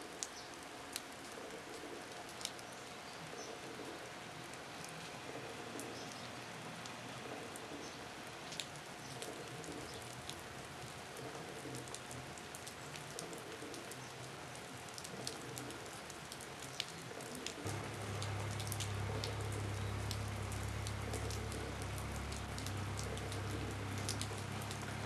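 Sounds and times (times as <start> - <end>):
rain hiss: 0.0 - 25.0
raindrops striking close by: 0.0 - 25.0.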